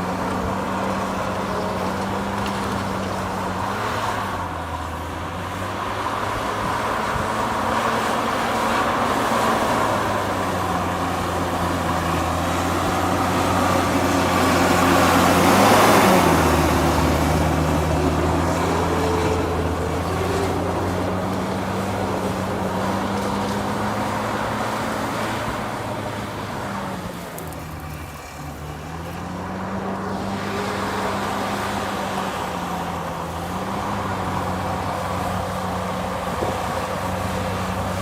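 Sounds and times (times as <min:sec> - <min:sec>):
heavy diesel engine under load: 0:00.0 - 0:38.0.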